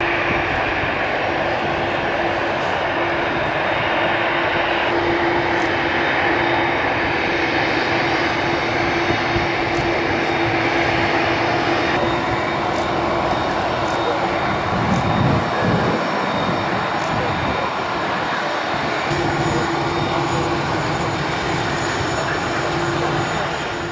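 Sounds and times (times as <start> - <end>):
jet engines running: 0.0 - 23.9.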